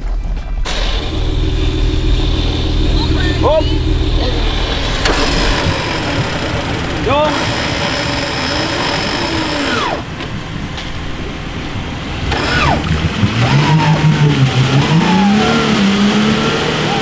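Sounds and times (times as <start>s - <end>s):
vehicle churning through mud: 0.0s - 17.0s
engine revving: 0.6s - 17.0s.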